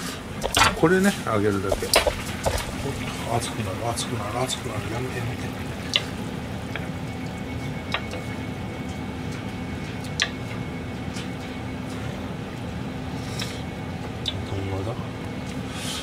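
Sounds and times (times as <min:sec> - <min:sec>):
kitchen hum: 0:00.0 - 0:16.0.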